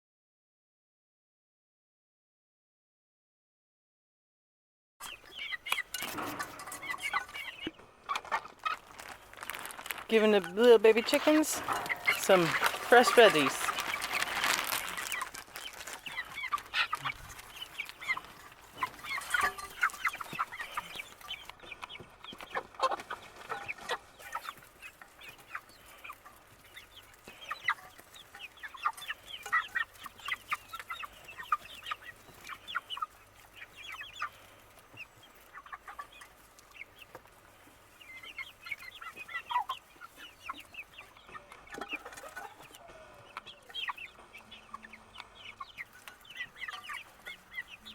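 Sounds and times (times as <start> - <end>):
young chickens cheeping and clucking: 5.0 - 47.9.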